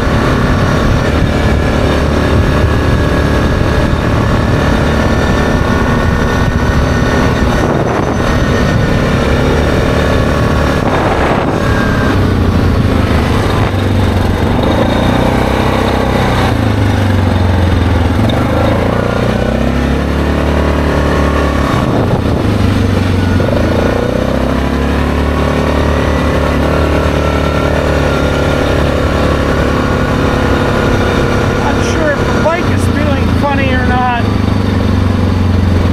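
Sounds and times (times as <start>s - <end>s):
atv engine running: 0.0s - 35.9s.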